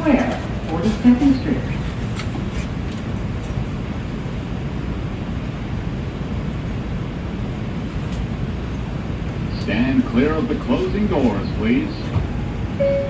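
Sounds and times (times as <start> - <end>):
subway car rumble and hiss: 0.0 - 13.0.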